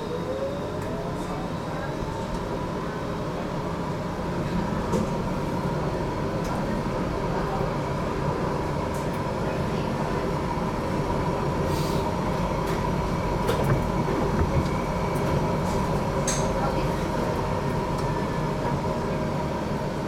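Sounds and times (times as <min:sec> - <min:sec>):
tram running rumble: 0:00.0 - 0:20.0
tram whine: 0:00.0 - 0:20.0.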